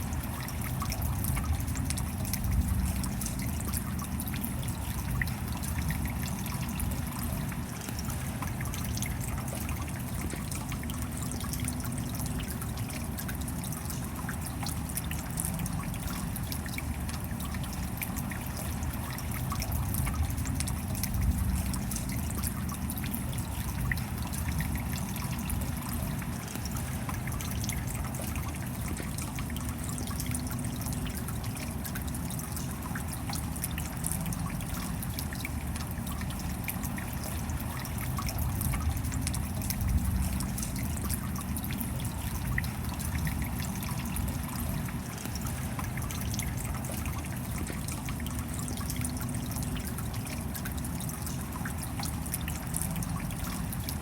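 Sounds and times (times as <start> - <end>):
steady rain: 0.0 - 54.0
water trickling: 0.0 - 54.0.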